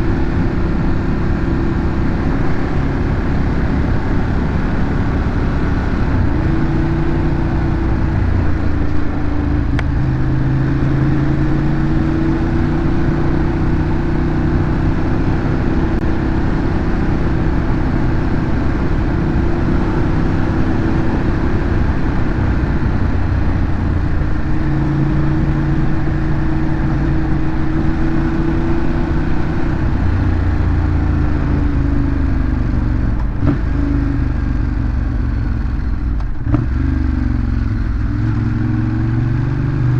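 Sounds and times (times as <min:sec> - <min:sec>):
motorcycle engine running: 0:00.0 - 0:39.9
road noise rush: 0:00.0 - 0:39.9.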